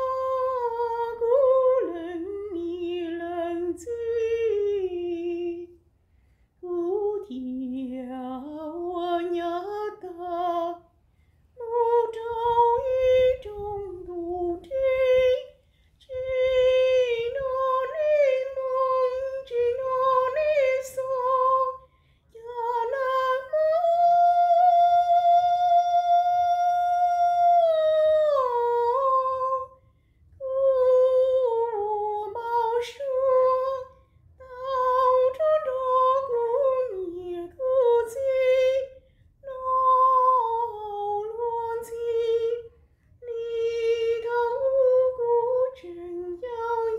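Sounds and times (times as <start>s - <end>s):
woman singing unaccompanied: 0.0s - 5.8s, 6.6s - 10.9s, 11.6s - 29.8s, 30.4s - 46.9s.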